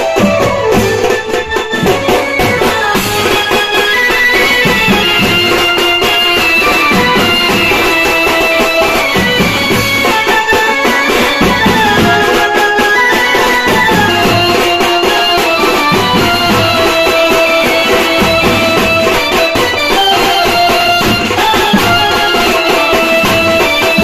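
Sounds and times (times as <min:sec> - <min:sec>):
loud band music: 0:00.0 - 0:24.0
steady drum beat: 0:00.0 - 0:24.0.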